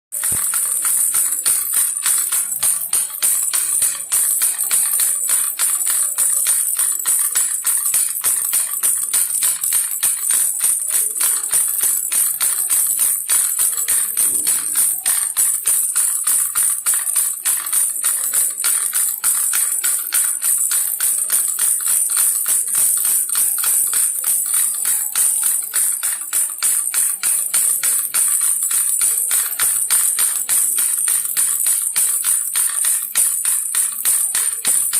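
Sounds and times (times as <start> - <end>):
baby rattle jingling: 0.2 - 34.9.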